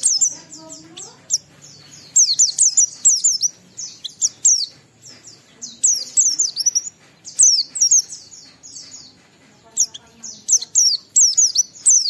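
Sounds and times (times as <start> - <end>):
bird twittering song: 0.0 - 12.0.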